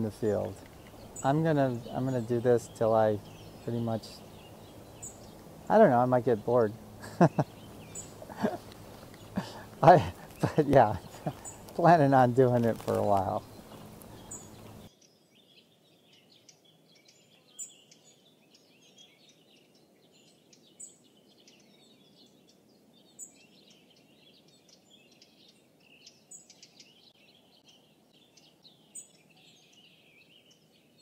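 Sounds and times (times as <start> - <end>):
low background hiss: 0.0 - 31.0
songbirds twittering: 0.0 - 31.0.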